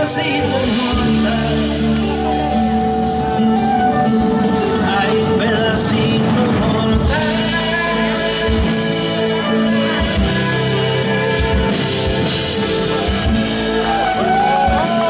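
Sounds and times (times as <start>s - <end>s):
acoustic band playing: 0.0s - 15.0s.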